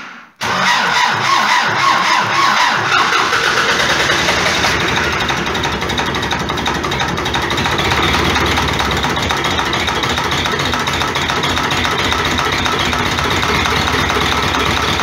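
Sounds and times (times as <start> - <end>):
tractor diesel engine clattering: 0.4 - 15.0.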